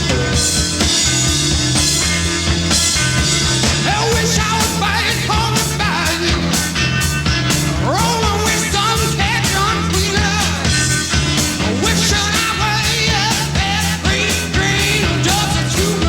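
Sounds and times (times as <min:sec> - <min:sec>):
drum and bass beat: 0:00.0 - 0:16.0.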